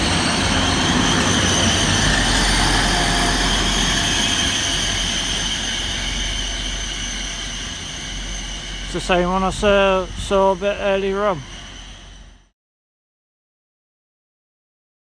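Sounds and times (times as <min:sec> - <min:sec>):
low train rumble: 0:00.0 - 0:12.5
train brakes squealing: 0:00.0 - 0:12.5.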